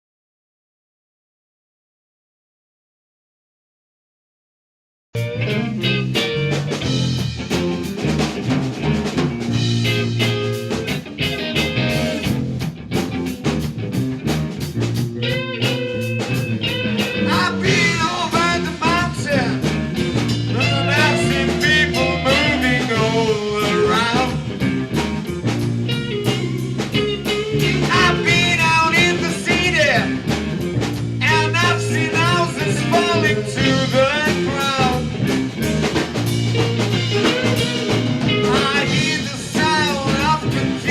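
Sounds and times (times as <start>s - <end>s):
rock band music: 5.2s - 40.9s
wavering lead guitar line: 5.2s - 40.9s.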